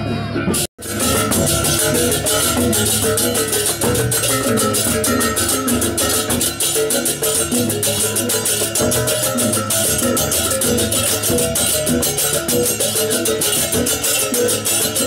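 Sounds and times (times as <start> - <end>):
drums: 0.0 - 15.0
tuned gongs melody: 0.8 - 15.0.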